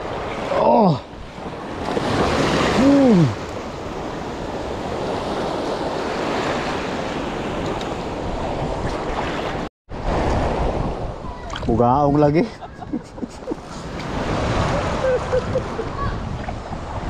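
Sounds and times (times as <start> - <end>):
rough sea waves washing: 0.0 - 17.0
wind on microphone: 1.2 - 11.8, 12.5 - 17.0.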